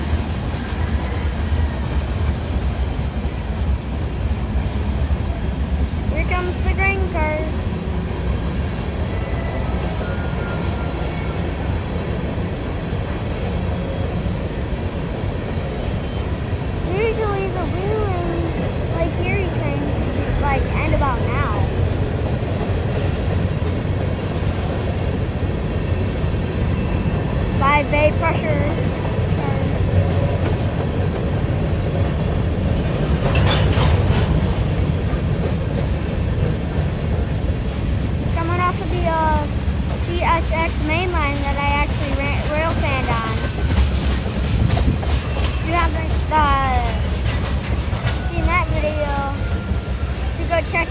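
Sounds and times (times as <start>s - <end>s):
freight train wheels rumbling on rail: 0.0s - 50.9s.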